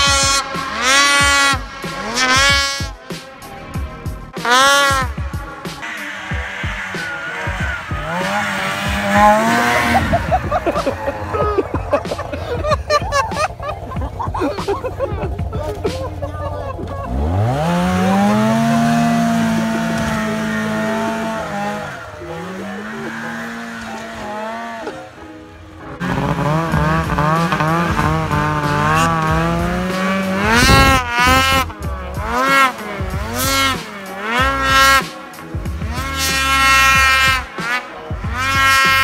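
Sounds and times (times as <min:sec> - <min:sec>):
snowmobile engine revving: 0:00.0 - 0:39.0.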